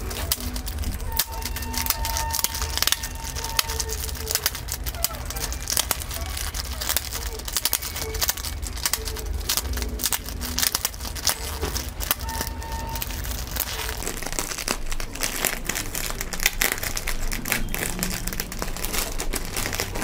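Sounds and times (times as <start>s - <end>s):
plastic and paper packaging crinkling: 0.0s - 20.0s.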